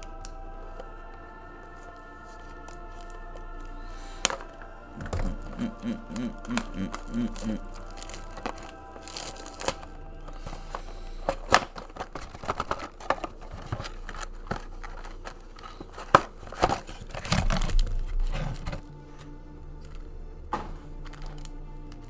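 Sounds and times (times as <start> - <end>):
packaging crinkling and tearing: 1.7 - 22.0.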